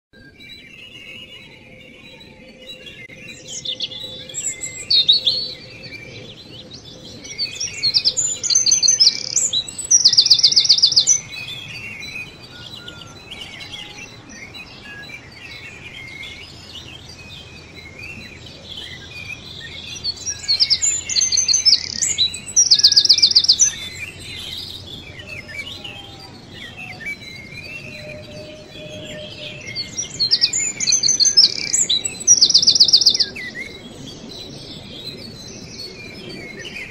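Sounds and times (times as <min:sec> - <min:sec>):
bird song with high trills: 0:00.2 - 0:36.9.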